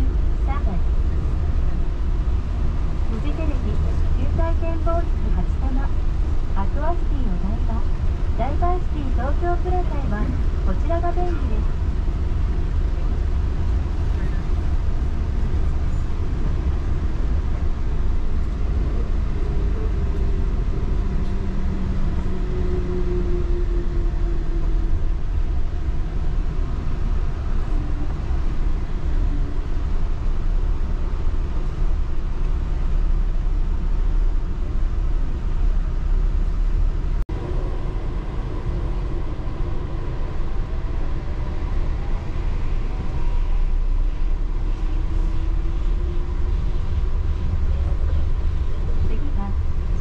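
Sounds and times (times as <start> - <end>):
train interior rumble: 0.0 - 50.0.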